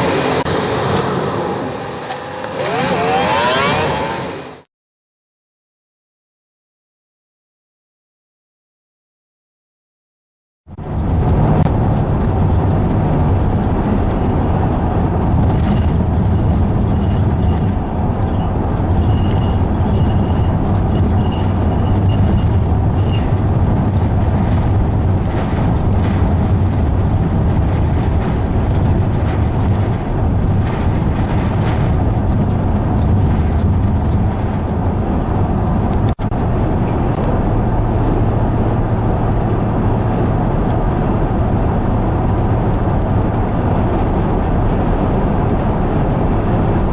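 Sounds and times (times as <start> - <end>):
vehicle road and engine noise: 0.0 - 4.7, 10.7 - 46.9.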